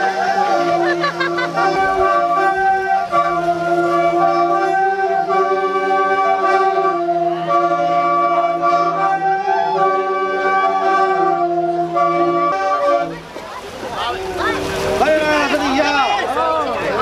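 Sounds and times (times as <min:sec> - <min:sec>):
wind instruments playing chords: 0:00.0 - 0:17.0.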